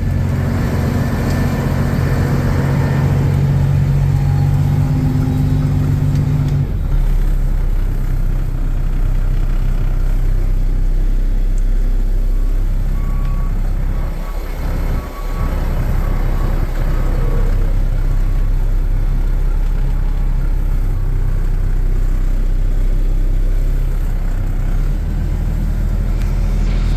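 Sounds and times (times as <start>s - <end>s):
diesel truck engine running: 0.0s - 26.9s.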